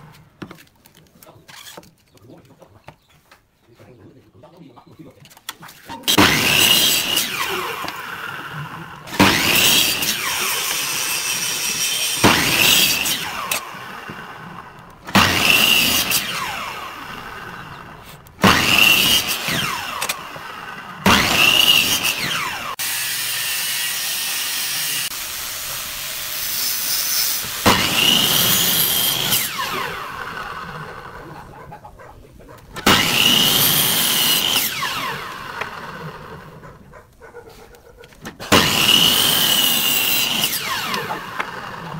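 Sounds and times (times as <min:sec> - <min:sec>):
miter saw cutting wood: 0:05.6 - 0:37.0, 0:38.1 - 0:41.9.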